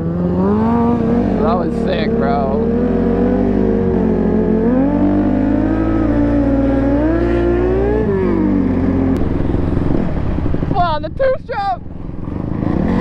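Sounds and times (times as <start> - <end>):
motorcycle engine pitch climbing: 0.0 - 13.0
motorcycle engines droning: 0.0 - 13.0.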